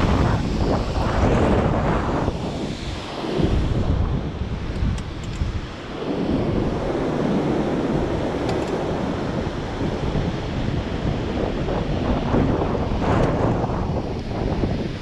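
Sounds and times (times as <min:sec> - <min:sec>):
wind buffeting the microphone: 0:00.0 - 0:15.0.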